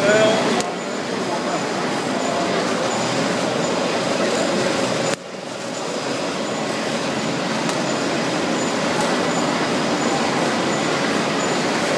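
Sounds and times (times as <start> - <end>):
embossing machine running: 0.0 - 11.9.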